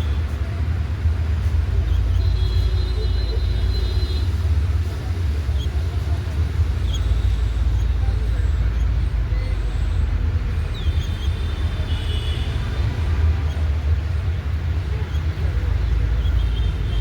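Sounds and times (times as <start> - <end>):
steady low rumble: 0.0 - 17.0
small birds chirping: 1.1 - 17.0.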